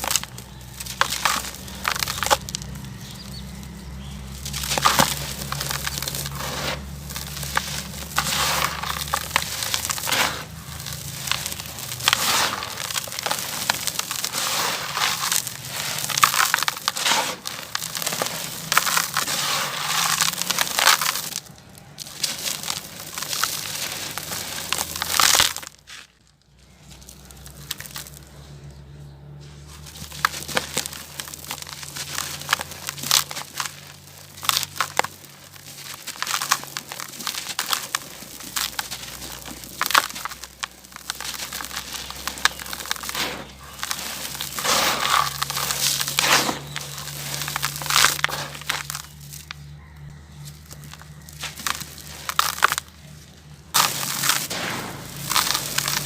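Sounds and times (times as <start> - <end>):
crunchy pieces being crushed: 0.0 - 28.4, 29.4 - 56.0.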